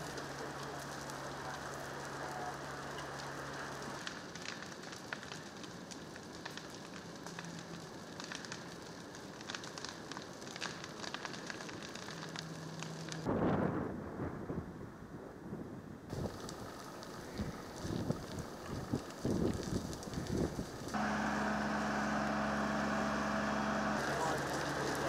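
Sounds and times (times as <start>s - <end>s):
deep rush of fire: 0.0s - 25.0s
wildfire crackling and hissing: 0.0s - 25.0s.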